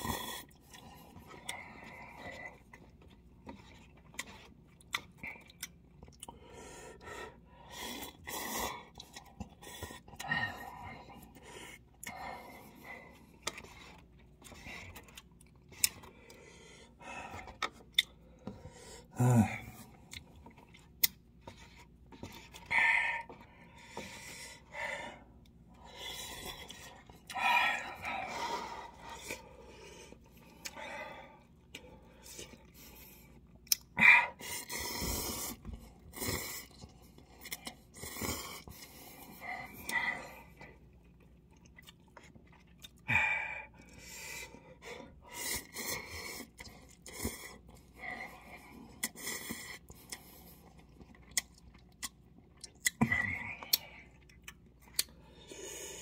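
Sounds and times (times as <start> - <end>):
man chewing noodles: 0.0 - 56.0.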